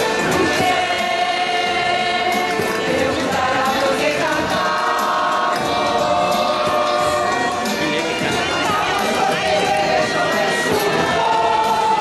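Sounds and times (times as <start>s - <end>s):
choir singing: 0.0s - 12.0s.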